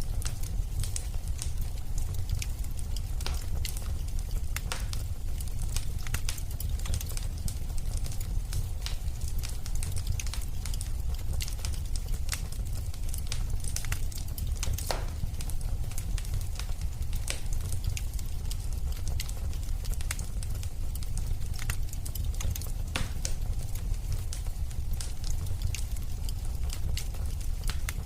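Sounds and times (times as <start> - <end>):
fire crackling and popping: 0.0 - 28.0
low rumble of flames: 0.0 - 28.0.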